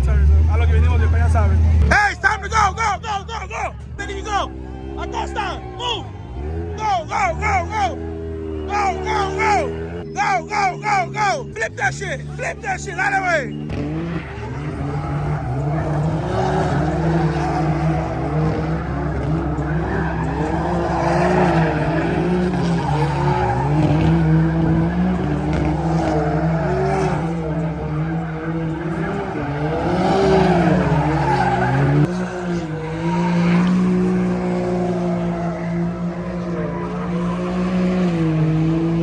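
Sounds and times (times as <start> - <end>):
truck engine revving high: 0.0 - 39.0
tyres squealing: 2.1 - 37.9.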